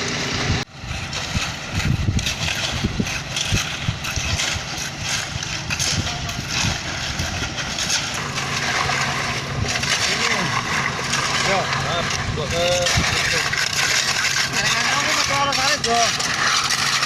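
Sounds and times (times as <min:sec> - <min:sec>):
concrete mixer truck rumbling: 0:00.0 - 0:17.0.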